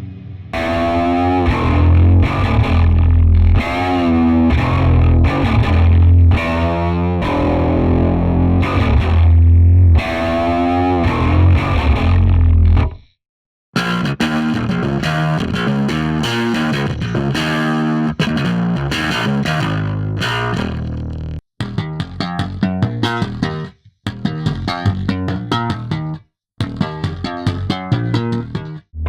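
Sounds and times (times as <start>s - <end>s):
bass guitar riff with sliding notes: 0.0s - 13.1s, 13.8s - 29.0s.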